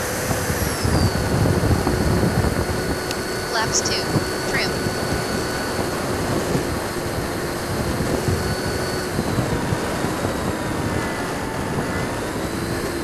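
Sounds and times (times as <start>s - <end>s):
electric fan whine: 0.0s - 13.0s
wind rush on microphone: 0.0s - 13.0s.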